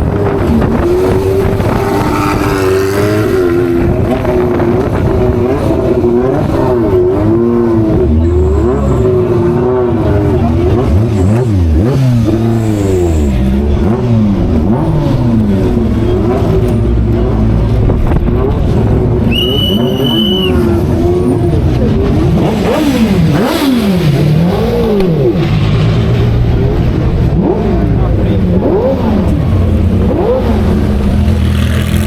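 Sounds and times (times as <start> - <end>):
race car engines revving and passing: 0.0 - 32.0.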